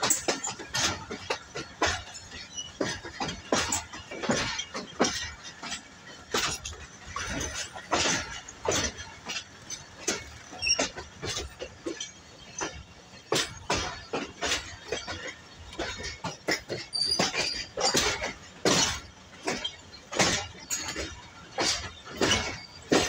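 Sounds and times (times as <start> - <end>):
train wheels clattering over joints: 0.0 - 23.0.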